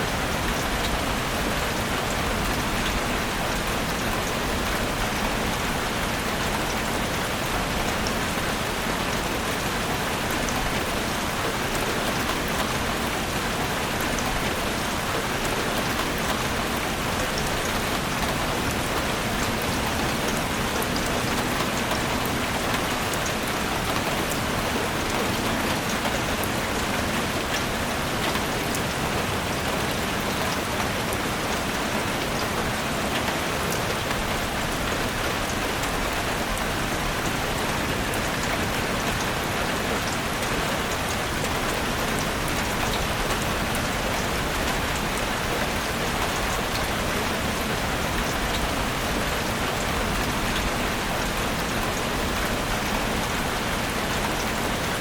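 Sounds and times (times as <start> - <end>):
steady rain in a forest: 0.0 - 55.0.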